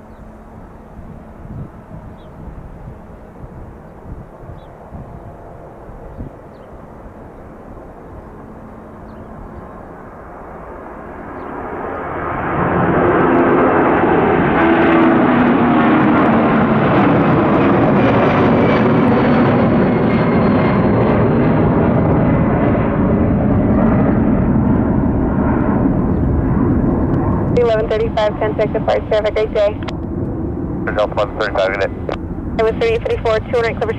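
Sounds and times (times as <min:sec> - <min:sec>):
jet engine roar: 0:00.0 - 0:33.9
high engine whine: 0:06.5 - 0:33.9.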